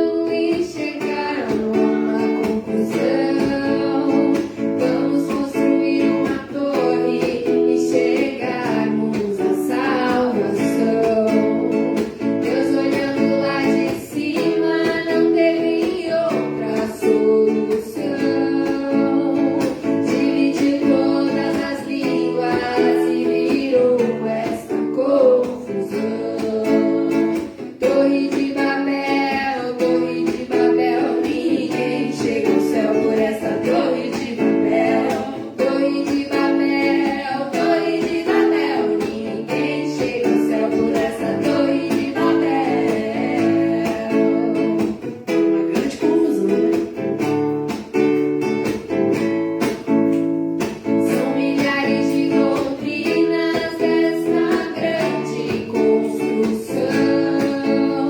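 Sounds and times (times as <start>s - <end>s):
person singing: 0.0s - 47.1s, 50.9s - 58.0s
acoustic guitar strumming: 0.0s - 58.0s.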